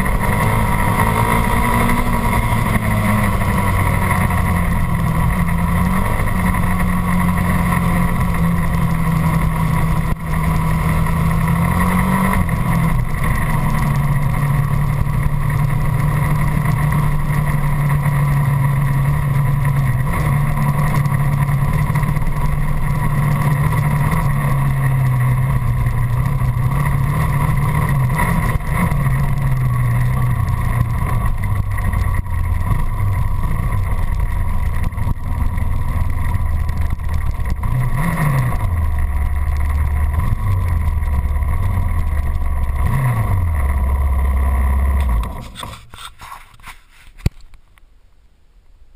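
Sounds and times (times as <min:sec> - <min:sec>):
dirt bike engine running: 0:00.0 - 0:47.0.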